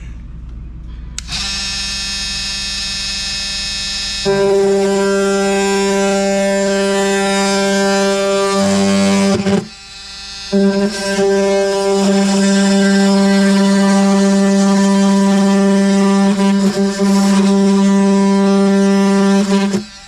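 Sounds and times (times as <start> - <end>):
power tool motor whine: 1.2 - 20.0.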